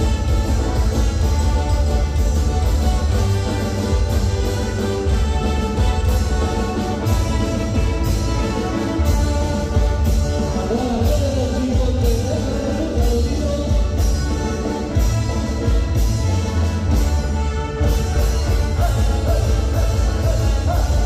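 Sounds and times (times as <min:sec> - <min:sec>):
drum beat: 0:00.0 - 0:21.0
heavy bass: 0:00.0 - 0:21.0.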